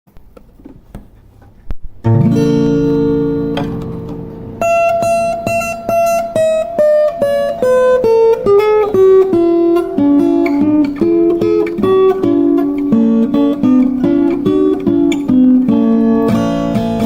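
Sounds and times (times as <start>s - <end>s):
acoustic guitar melody: 0.4s - 17.0s.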